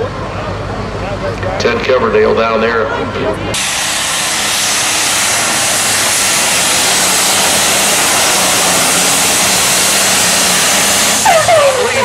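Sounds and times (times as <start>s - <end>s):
tractor engine at full power: 0.0s - 12.0s.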